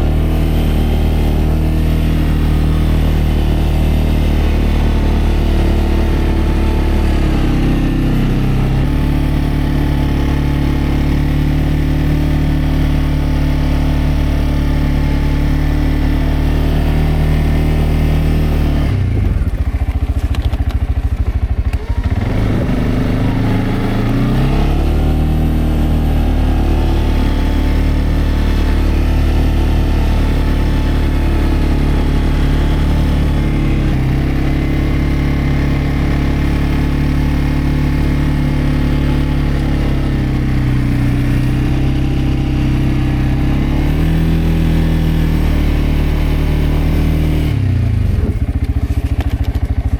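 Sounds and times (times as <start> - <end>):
atv engine running and revving: 0.0 - 49.9.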